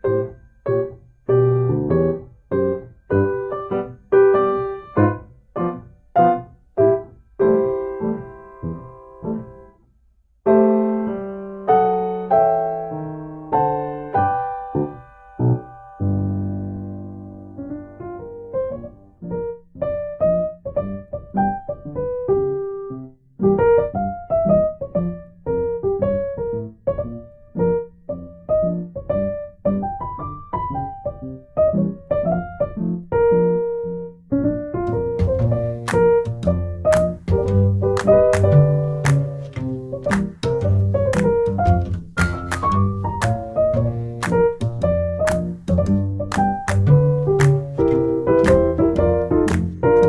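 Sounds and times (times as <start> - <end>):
piano chords: 0.0 - 9.8, 10.4 - 50.0.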